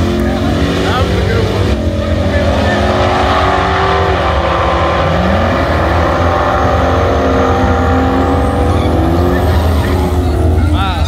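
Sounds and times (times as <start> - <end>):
drag car engine rumbling: 0.0 - 11.0.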